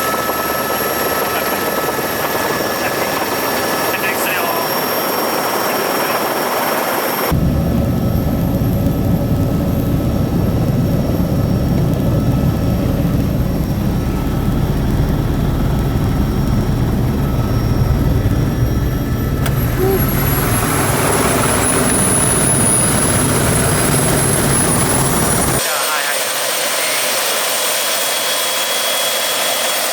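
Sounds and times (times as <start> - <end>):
helicopter rotor rumble: 0.0 - 29.9
high helicopter whine: 0.0 - 29.9.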